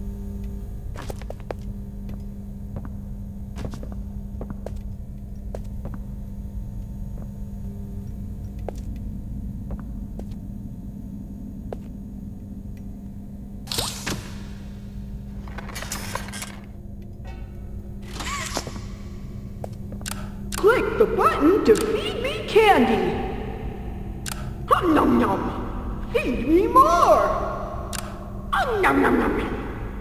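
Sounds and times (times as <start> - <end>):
electrical hum with low rumble: 0.0 - 30.0.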